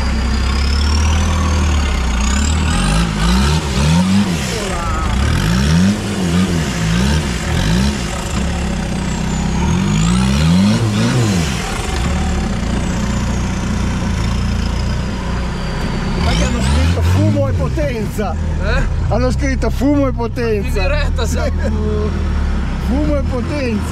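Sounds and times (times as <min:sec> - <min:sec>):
off-road vehicle engine revving: 0:00.0 - 0:23.9.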